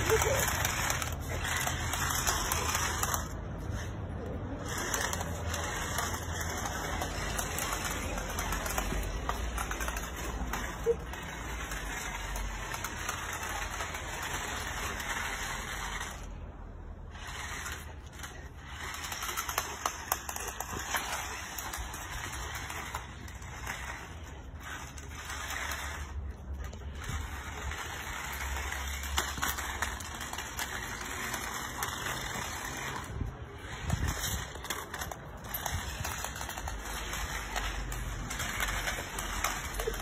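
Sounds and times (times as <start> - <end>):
toy car motors whirring: 0.0 - 40.0
wheels rattling on concrete: 0.0 - 40.0.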